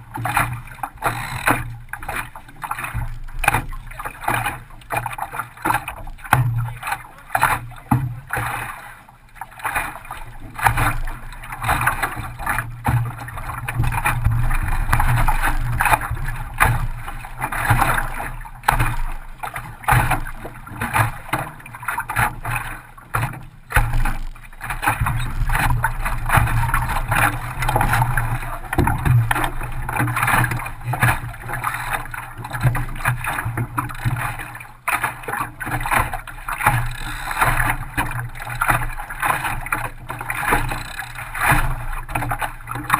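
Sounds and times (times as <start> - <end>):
rumble of wind and water: 0.0 - 42.9
water slapping against boat hull: 0.0 - 42.9.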